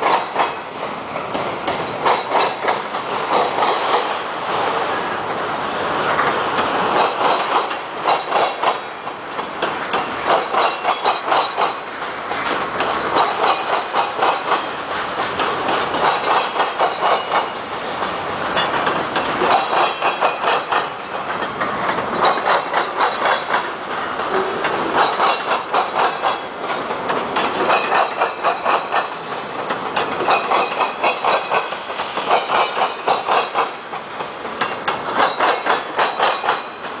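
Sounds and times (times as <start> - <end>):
freight train rumble: 0.0 - 37.0
steel wheels clicking over rail joints: 0.0 - 37.0.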